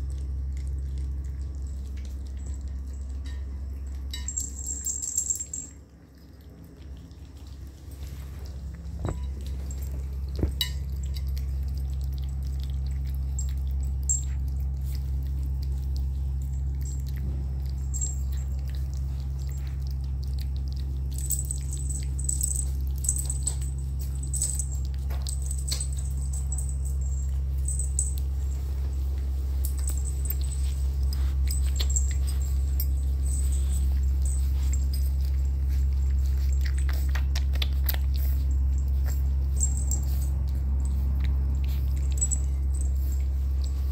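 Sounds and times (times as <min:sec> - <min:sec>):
puppies lapping and chewing: 0:00.0 - 0:43.9
steady low hum: 0:00.0 - 0:43.9.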